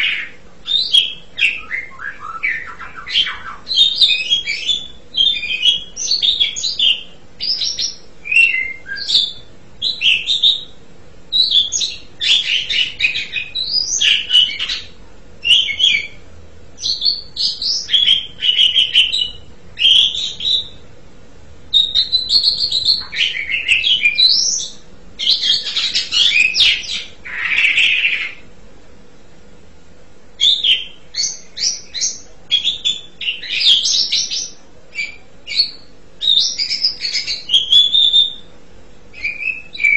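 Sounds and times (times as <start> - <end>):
starling singing: 0.0 - 20.9, 21.7 - 28.5, 30.4 - 38.5, 39.1 - 39.9.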